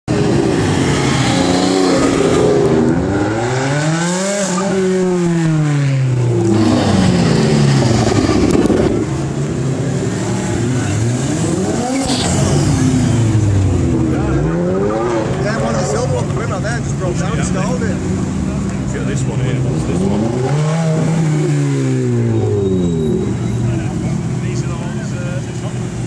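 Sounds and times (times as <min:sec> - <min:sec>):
sports cars revving past: 0:00.1 - 0:24.4.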